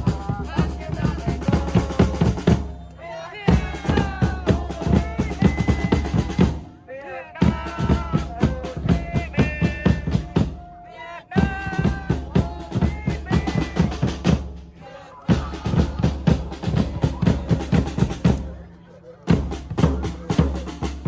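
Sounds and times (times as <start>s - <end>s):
song with singing and drums: 0.0s - 18.6s.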